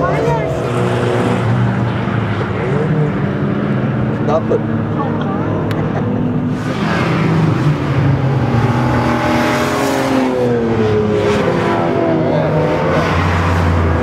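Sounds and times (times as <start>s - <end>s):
race car engines accelerating: 0.0s - 14.0s.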